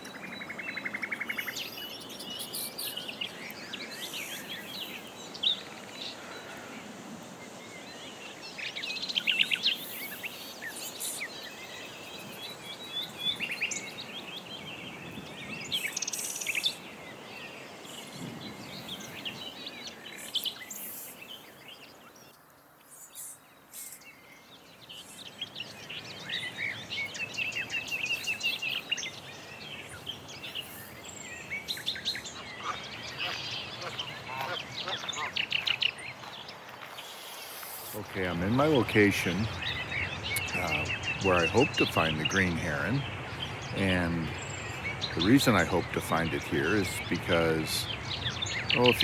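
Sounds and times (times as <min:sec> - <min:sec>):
birds chirping and trilling: 0:00.0 - 0:49.0
outdoor background hiss: 0:00.0 - 0:49.0.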